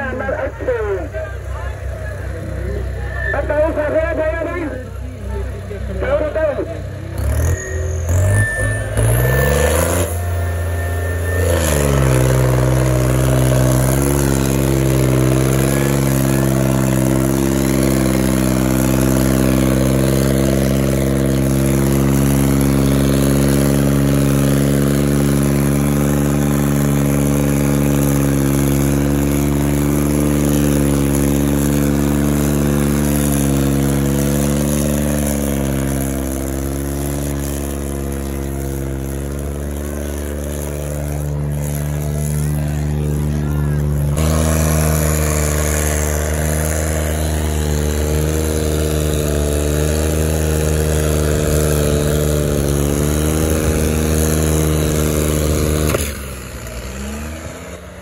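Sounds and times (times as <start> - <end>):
tractor diesel engine labouring: 0.0 - 58.0.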